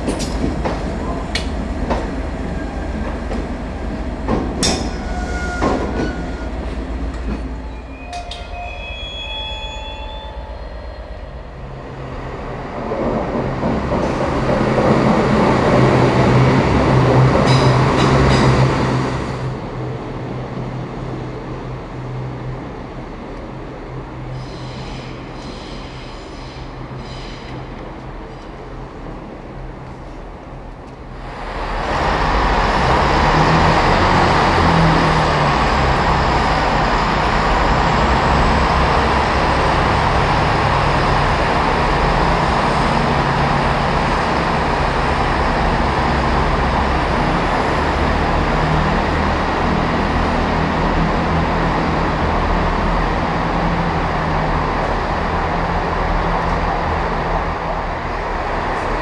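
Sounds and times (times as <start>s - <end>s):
train diesel engines droning: 0.0s - 59.0s.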